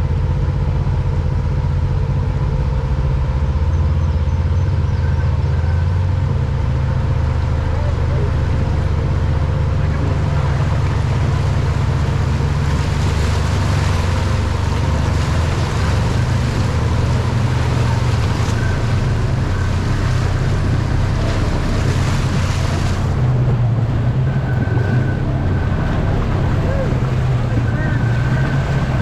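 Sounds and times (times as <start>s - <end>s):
utility vehicle engine running: 0.0s - 29.0s.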